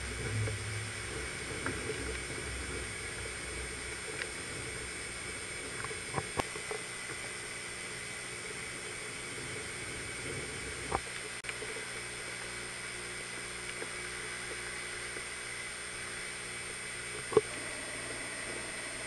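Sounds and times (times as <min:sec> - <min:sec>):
whirring hum: 0:00.0 - 0:19.0.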